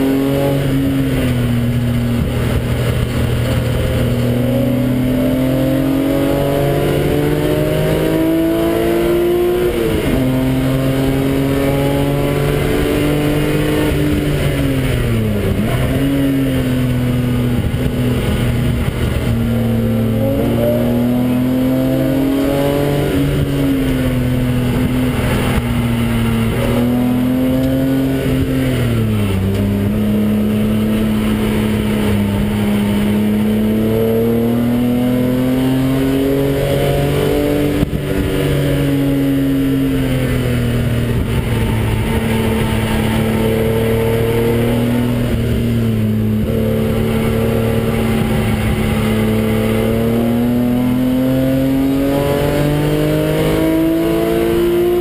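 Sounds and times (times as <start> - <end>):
car engine under load: 0.0 - 55.0
tyre and wind noise: 0.0 - 55.0.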